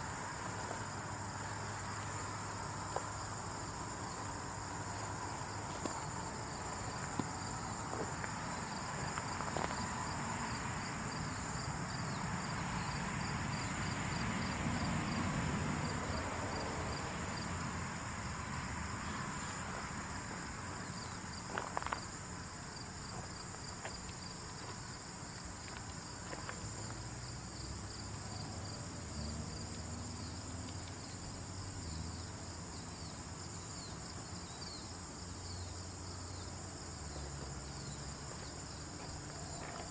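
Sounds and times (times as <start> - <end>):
insect chorus trilling: 0.0 - 15.2, 15.8 - 39.9.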